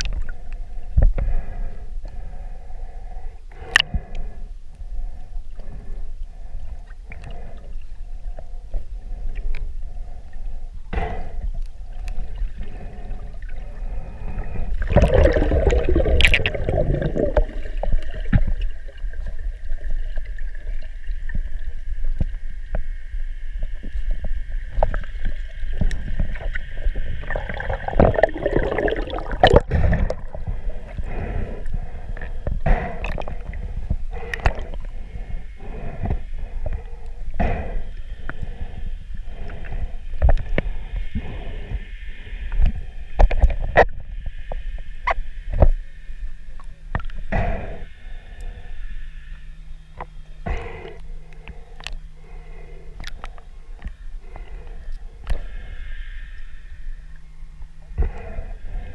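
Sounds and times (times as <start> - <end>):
water gurgling and sloshing: 0.0 - 58.9.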